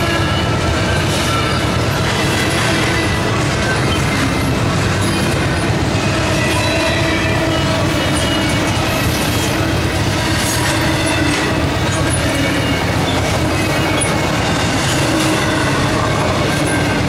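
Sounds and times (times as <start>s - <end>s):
freight cars rattling: 0.0s - 17.0s
train wheels on rails: 0.0s - 17.0s.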